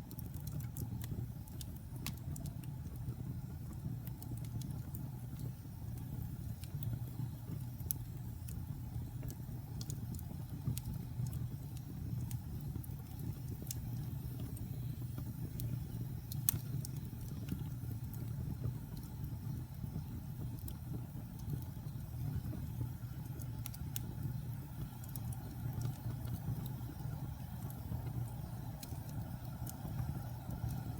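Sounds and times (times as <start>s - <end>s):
burning wood crackling and popping: 0.0s - 30.9s
fire flames rumbling: 0.0s - 30.9s.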